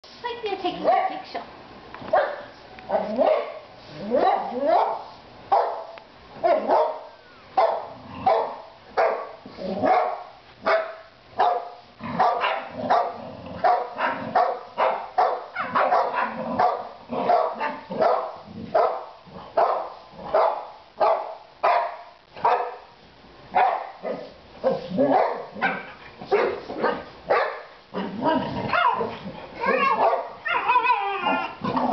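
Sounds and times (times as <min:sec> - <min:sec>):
dogs barking in play: 0:02.0 - 0:31.9.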